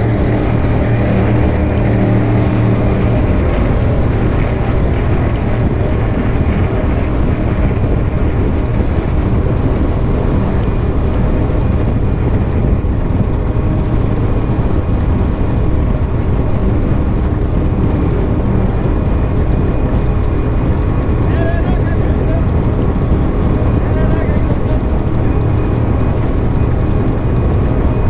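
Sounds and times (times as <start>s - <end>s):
powerboat engine drone: 0.0s - 28.0s
water rushing past hull: 0.0s - 28.0s
wind buffeting microphone: 0.0s - 28.0s.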